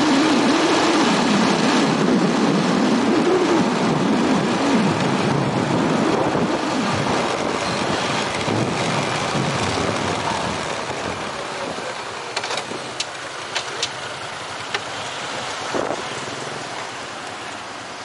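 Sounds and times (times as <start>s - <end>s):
motorbike engine: 0.0s - 17.9s
tyres on road: 0.0s - 18.0s.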